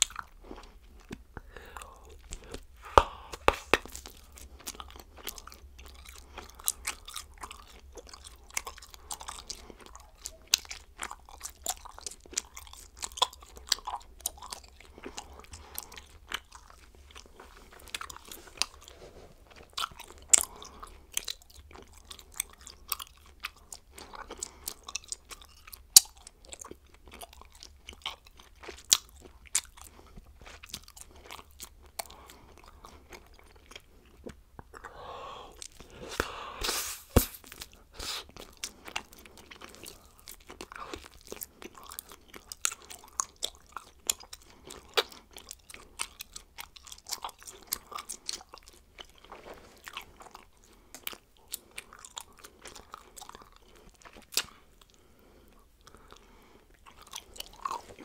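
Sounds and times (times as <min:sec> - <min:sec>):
person chewing bubblegum: 0:00.0 - 0:58.0.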